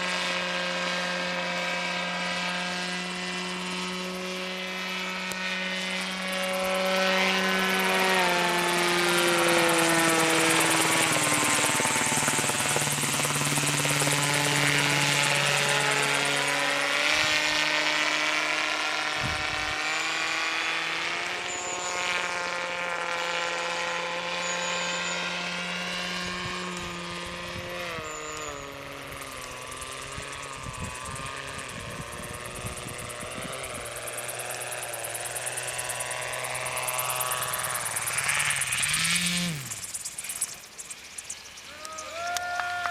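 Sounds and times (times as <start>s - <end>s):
model aircraft propeller drone: 0.0s - 42.9s.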